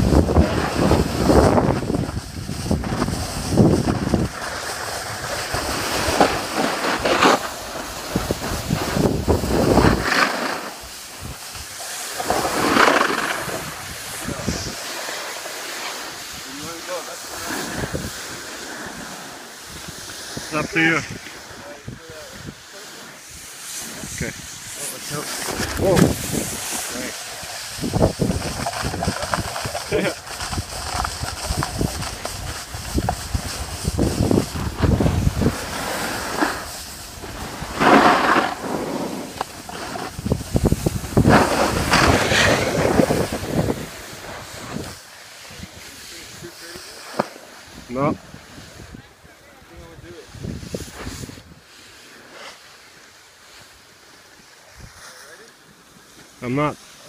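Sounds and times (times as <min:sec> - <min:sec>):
wind on microphone: 0:00.0 - 0:15.3, 0:15.9 - 0:46.8, 0:47.6 - 0:51.7
snowboard scraping over snow: 0:00.0 - 0:57.0.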